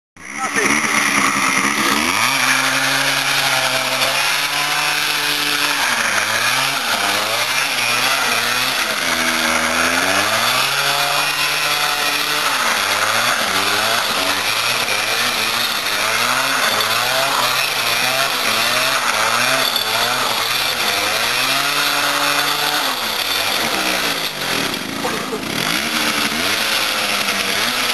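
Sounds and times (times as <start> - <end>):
moped engine revving: 0.2 - 27.9.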